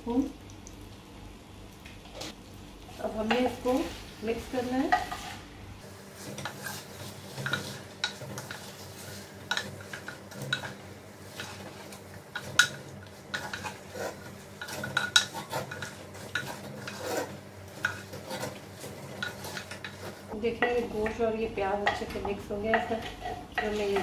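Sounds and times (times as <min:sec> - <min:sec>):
wooden spoon scraping clay pot: 0:03.0 - 0:21.2, 0:21.8 - 0:24.0.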